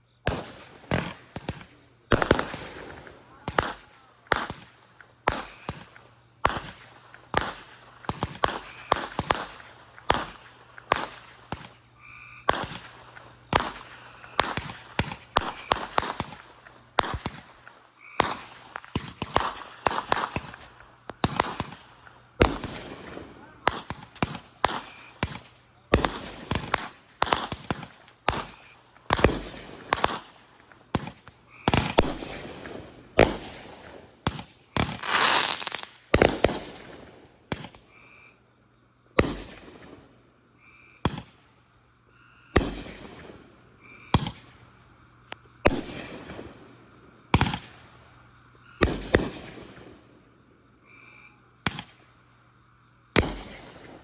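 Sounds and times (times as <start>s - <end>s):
fireworks bangs: 0.0s - 37.9s, 39.1s - 40.2s, 41.0s - 41.6s, 42.5s - 50.4s, 51.6s - 52.1s, 53.1s - 54.0s.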